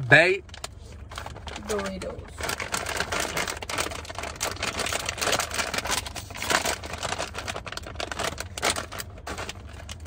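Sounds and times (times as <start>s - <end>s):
chip bag crinkling: 0.4s - 10.0s.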